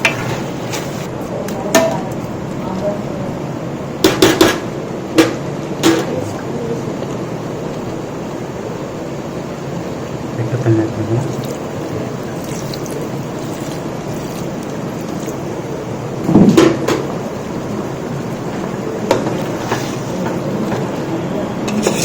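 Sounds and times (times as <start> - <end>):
frying hiss: 0.0 - 22.0.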